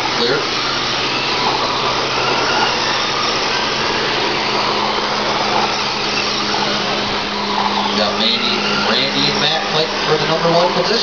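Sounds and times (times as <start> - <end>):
small motors whining: 0.0 - 11.0.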